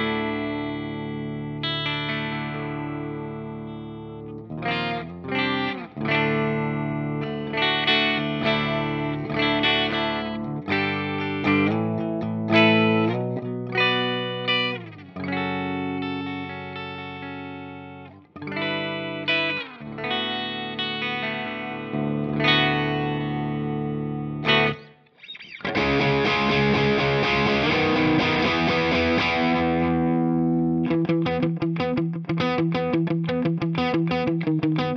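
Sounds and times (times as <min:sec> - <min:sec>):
distorted electric guitar: 0:00.0 - 0:34.9
electric guitar chords: 0:00.0 - 0:34.9.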